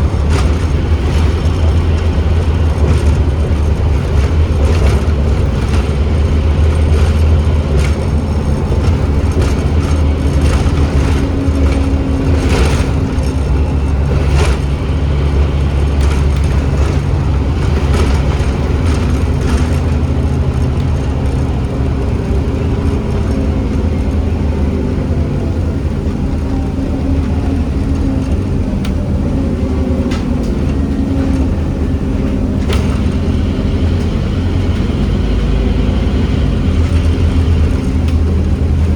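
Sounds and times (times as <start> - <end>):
bodywork rattles: 0.0 - 38.9
bus diesel engine humming: 0.0 - 38.9.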